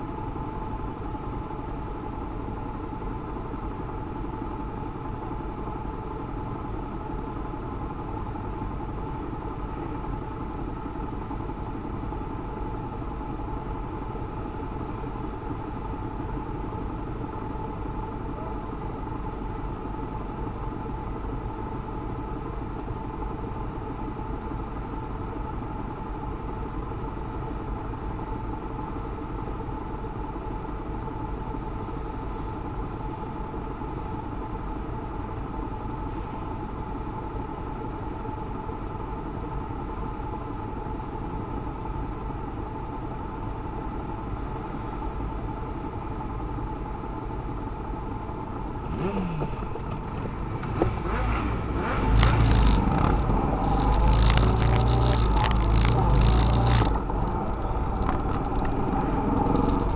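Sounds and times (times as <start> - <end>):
motorcycles idling: 0.1 - 59.9.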